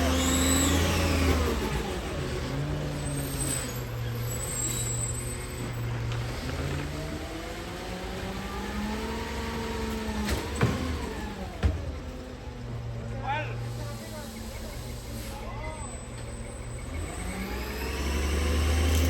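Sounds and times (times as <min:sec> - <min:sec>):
garbage truck engine revving: 0:00.0 - 0:19.0.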